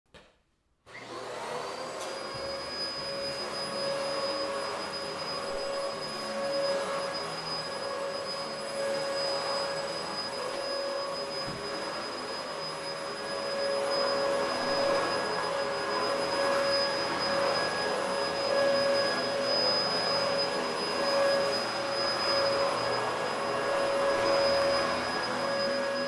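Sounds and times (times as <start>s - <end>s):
vacuum cleaner running: 0.9s - 26.0s.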